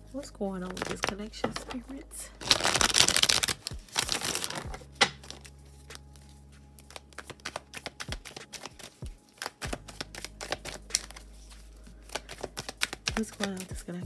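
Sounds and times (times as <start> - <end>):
cards shuffling clicks: 0.7 - 1.8, 2.4 - 14.0.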